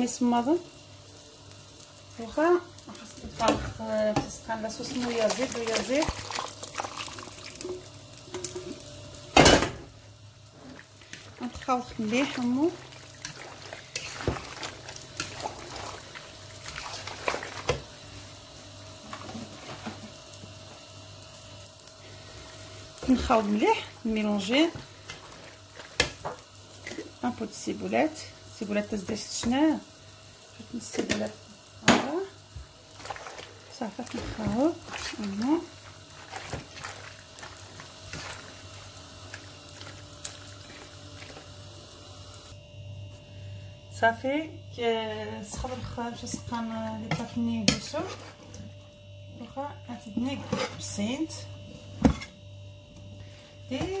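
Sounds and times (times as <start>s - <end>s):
food sizzling in a pan: 0.0s - 43.5s, 44.3s - 54.0s.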